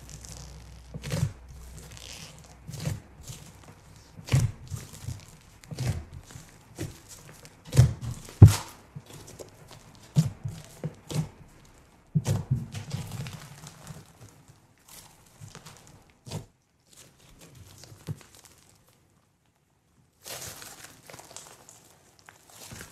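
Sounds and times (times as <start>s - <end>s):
slime crackling and squishing: 0.0s - 22.9s.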